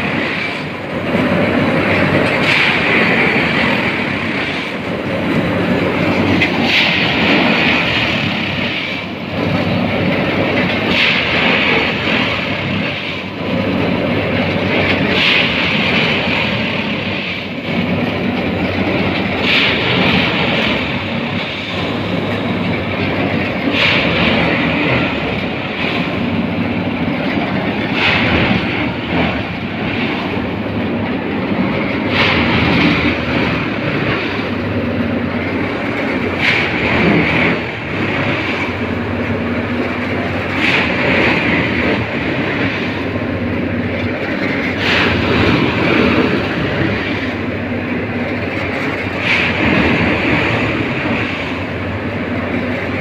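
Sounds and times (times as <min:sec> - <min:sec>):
track tamping machine droning: 0:00.0 - 0:53.0.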